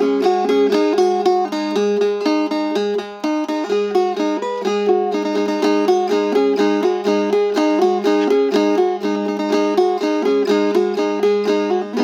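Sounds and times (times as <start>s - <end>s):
plucked lute melody: 0.0s - 12.0s.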